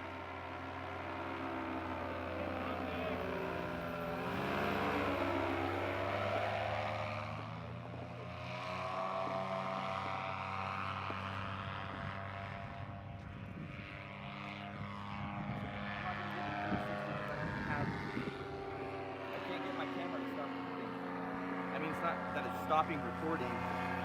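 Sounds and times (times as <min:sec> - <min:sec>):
paramotor engine and propeller: 0:00.0 - 0:24.0.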